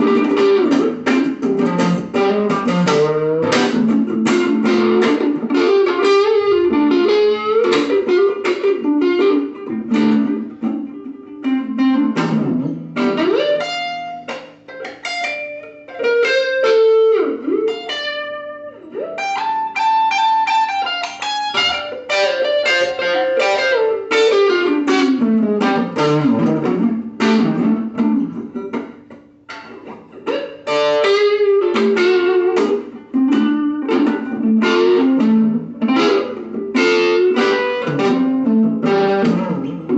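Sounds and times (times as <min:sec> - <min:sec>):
instrumental guitar music: 0:00.0 - 0:39.9.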